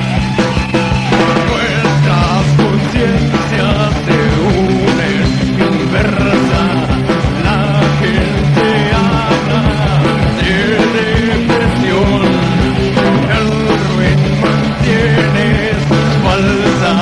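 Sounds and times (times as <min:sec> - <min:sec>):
fast dense drum hits: 0:00.0 - 0:17.0
heavy metal band playing: 0:00.0 - 0:17.0
melodic guitar line bending: 0:00.0 - 0:17.0.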